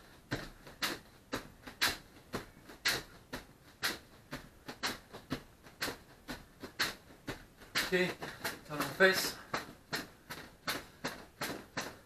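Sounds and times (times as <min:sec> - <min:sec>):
bare feet hopping on foam mats: 0:00.0 - 0:12.0.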